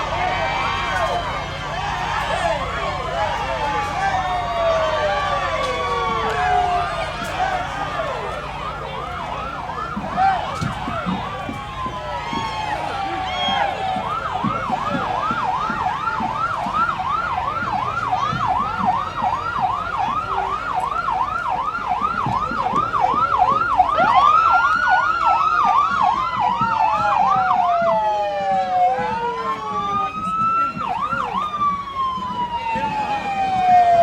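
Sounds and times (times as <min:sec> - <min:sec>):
siren wailing: 0:00.0 - 0:34.0
siren yelping: 0:00.0 - 0:34.0.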